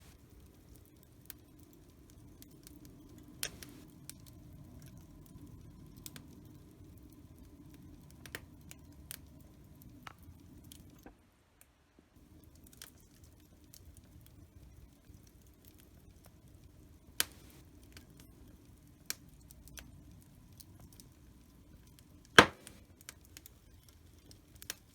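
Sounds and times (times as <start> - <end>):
fire crackling and popping: 0.0 - 11.1, 12.2 - 24.9
low rumble of burning: 0.0 - 11.2, 12.1 - 24.9.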